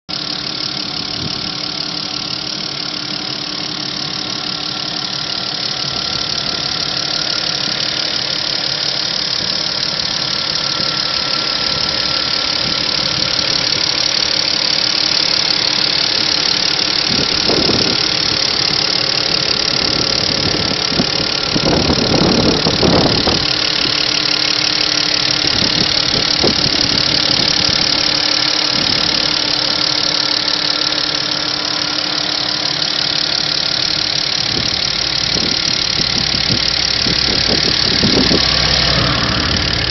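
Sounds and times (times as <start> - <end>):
petrol engine running: 0.1 - 39.9.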